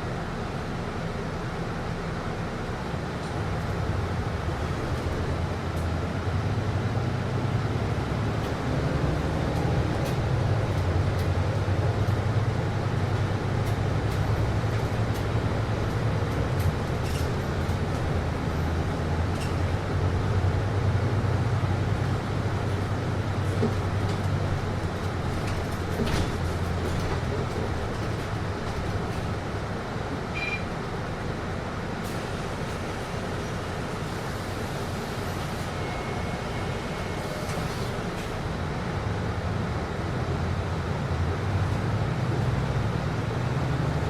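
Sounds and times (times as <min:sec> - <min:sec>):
bus engine and air conditioning hum: 0:00.0 - 0:44.0.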